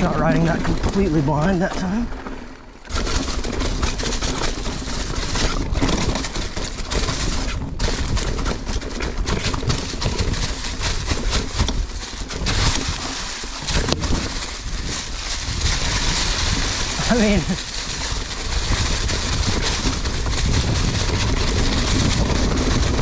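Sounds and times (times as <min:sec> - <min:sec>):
bike clattering over roots and rocks: 0:00.0 - 0:23.0
bike tyres rushing on dirt trail: 0:00.0 - 0:23.0.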